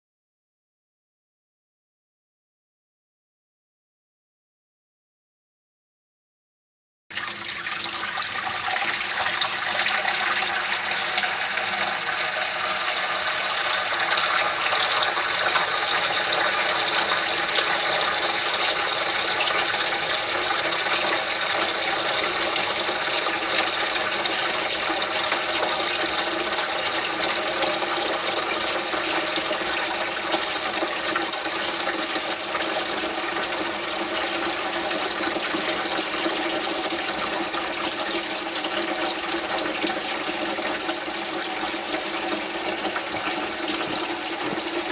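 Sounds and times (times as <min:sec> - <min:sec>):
tap water running into sink: 0:07.1 - 0:44.9.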